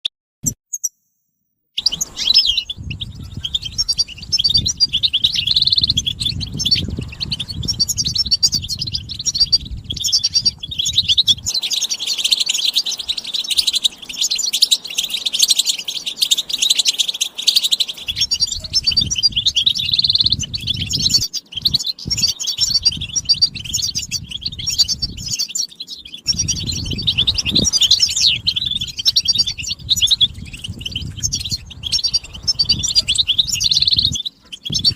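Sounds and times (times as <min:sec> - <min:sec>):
birds twittering and singing: 0:01.8 - 0:34.9.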